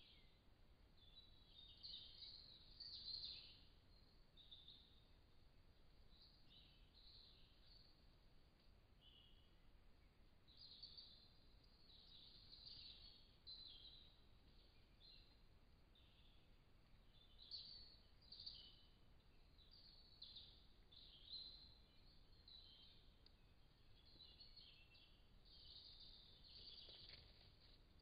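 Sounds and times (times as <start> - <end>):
faint birdsong chirping: 0.0 - 28.0
low microphone hiss: 0.0 - 28.0.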